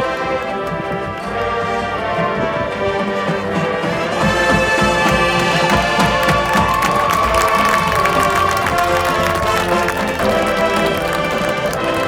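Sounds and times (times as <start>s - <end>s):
marching band playing: 0.0s - 12.0s.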